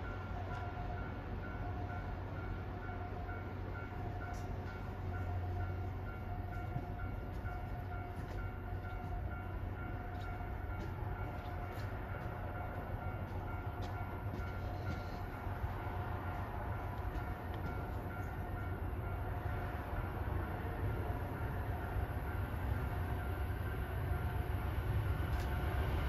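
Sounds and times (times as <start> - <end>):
diesel train rumbling: 0.0 - 26.0.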